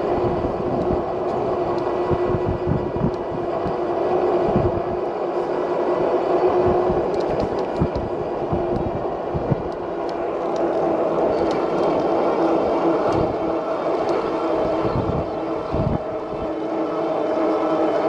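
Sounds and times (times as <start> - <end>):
e-bike motor and tyre hum: 0.0 - 18.0
wind buffeting microphone: 0.0 - 18.0.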